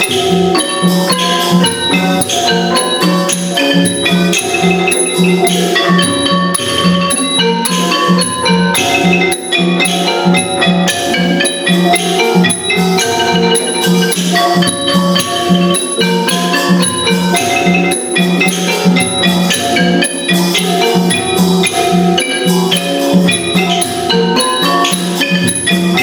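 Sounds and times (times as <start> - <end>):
mallet percussion ensemble music: 0.0 - 26.0.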